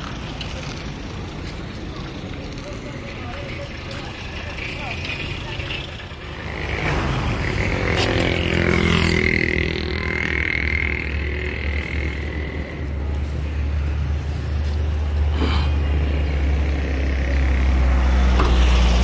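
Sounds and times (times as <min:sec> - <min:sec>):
vehicle engine running: 0:00.0 - 0:19.0
vehicle passing: 0:02.2 - 0:19.0.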